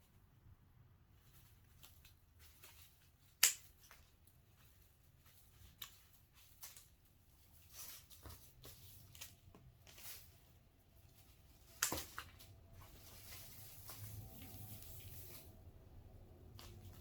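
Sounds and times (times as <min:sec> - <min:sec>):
hands rustling materials: 0:01.0 - 0:17.0.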